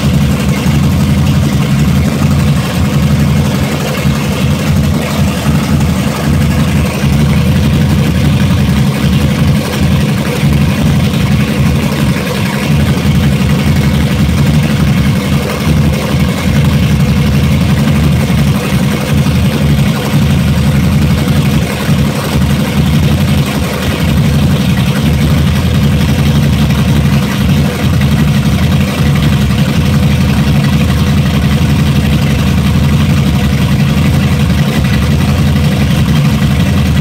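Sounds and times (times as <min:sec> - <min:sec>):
outboard engines running: 0:00.0 - 0:37.0
propellers churning water: 0:00.0 - 0:37.0.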